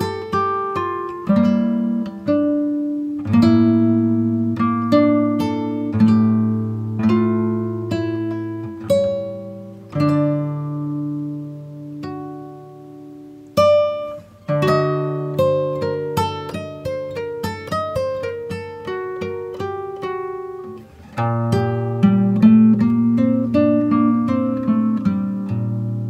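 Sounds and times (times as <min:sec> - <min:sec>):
acoustic guitar chords plucked: 0:00.0 - 0:26.0.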